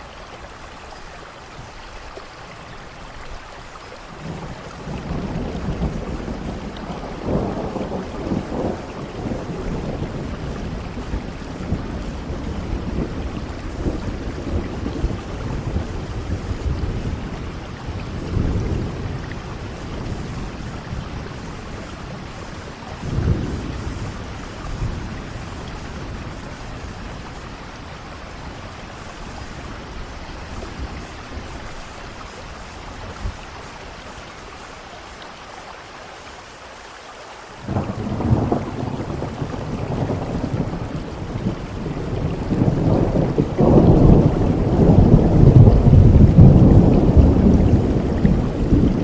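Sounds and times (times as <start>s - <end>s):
steady rain: 0.0s - 49.0s
thunder rumbling: 4.1s - 34.3s, 37.6s - 49.0s.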